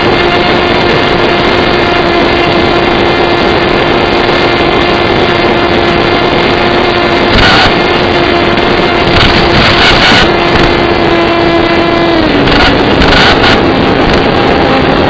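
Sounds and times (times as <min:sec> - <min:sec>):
model aircraft motor running: 0:00.0 - 0:15.0
wind rush: 0:00.0 - 0:15.0.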